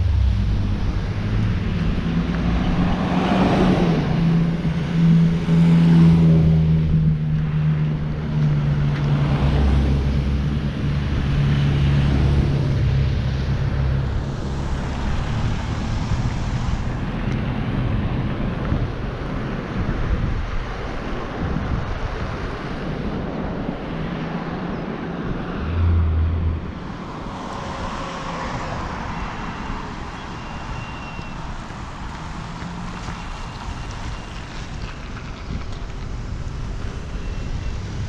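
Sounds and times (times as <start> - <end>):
vehicle engine humming: 0.0 - 22.6, 23.5 - 38.0
cars driving past: 0.0 - 38.0.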